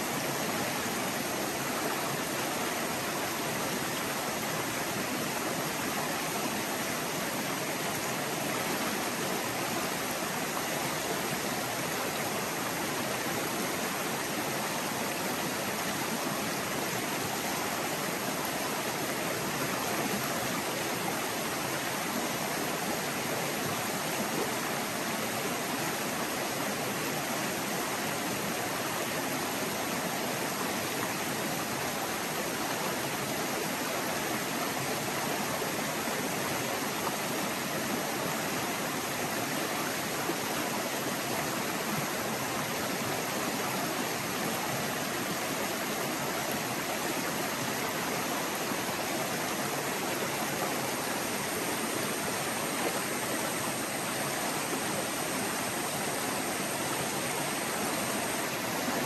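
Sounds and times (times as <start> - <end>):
creek flowing over rocks: 0.0 - 59.0.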